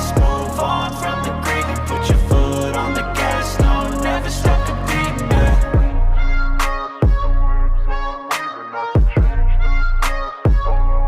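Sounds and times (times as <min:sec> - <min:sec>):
hip hop music with heavy bass: 0:00.0 - 0:11.0.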